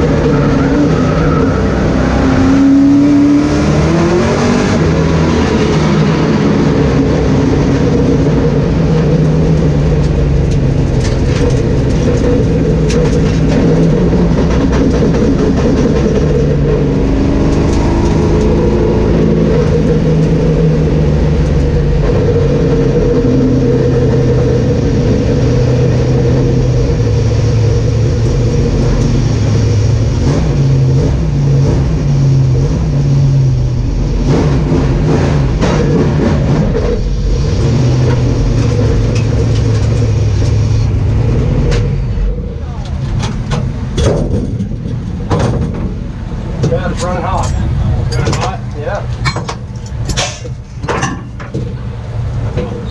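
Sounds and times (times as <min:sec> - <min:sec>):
stock car engine revving: 0:00.0 - 0:52.9.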